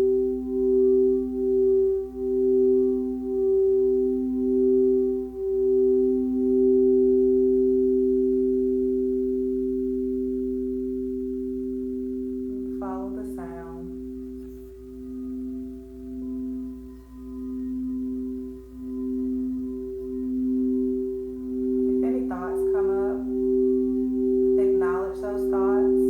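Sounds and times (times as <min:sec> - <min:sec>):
crystal singing bowls pulsing: 0:00.0 - 0:26.0.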